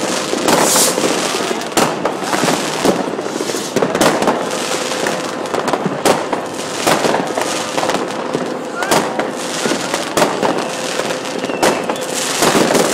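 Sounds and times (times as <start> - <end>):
crackle of bursting shells: 0.0 - 12.9
fireworks bangs: 0.0 - 12.9.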